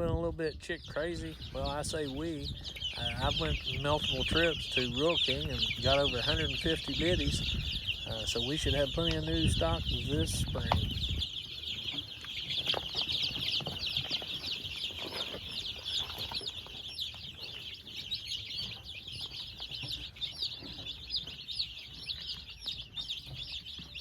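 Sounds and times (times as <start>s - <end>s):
baby chicks peeping: 0.0s - 24.0s.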